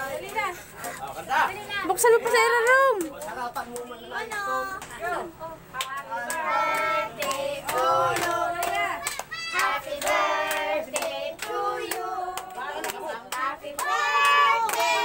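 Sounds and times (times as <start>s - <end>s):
group singing a celebration song: 0.0s - 15.0s
hands clapping along: 2.1s - 5.0s, 5.8s - 15.0s.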